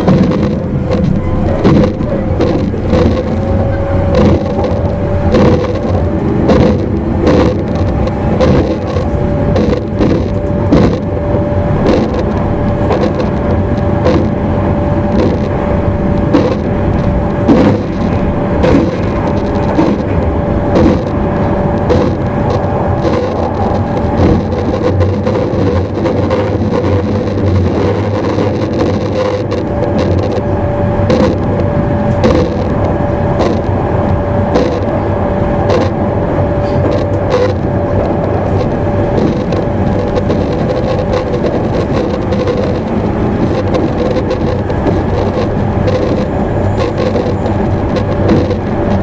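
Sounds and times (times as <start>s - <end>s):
steady motor whine: 0.0s - 49.0s
train wheels rumbling on track: 0.0s - 49.0s.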